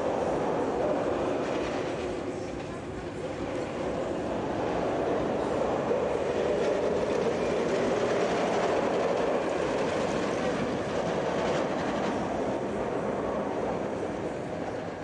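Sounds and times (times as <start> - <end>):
roller coaster wheels rumbling on rails: 0.0 - 15.0.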